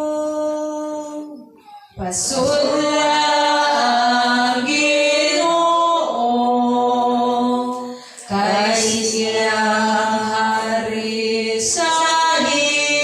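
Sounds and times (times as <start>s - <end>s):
voices singing a cappella: 0.0s - 13.0s.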